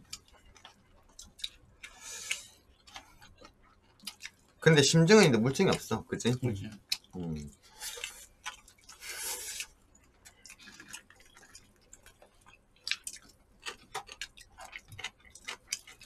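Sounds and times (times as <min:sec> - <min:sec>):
wet chewing: 0:00.0 - 0:04.6, 0:06.7 - 0:16.0.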